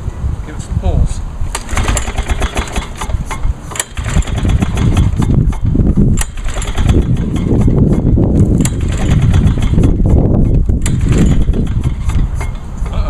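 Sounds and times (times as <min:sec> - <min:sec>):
mower recoil starter pulled: 0:01.5 - 0:12.7
engine turning over without catching: 0:01.5 - 0:13.0.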